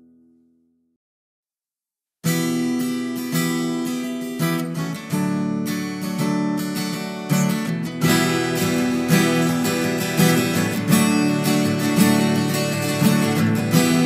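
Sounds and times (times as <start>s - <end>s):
acoustic guitar strumming chords: 2.2s - 14.0s.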